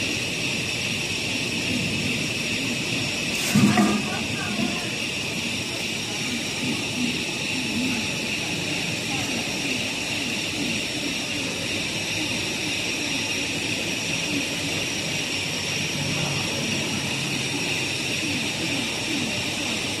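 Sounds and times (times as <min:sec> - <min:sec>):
high-pitched whine: 0:00.0 - 0:20.0
machine drone and hiss: 0:00.0 - 0:20.0.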